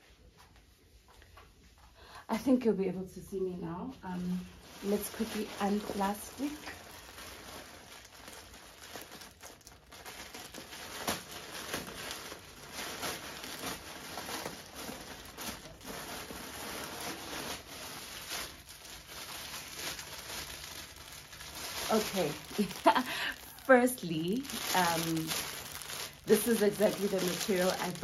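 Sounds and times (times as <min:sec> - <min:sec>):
plastic packaging crinkling: 0:04.1 - 0:28.0.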